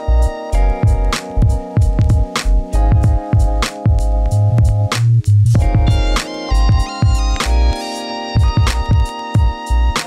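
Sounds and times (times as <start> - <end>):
music with drums and steady beat: 0.0 - 10.0.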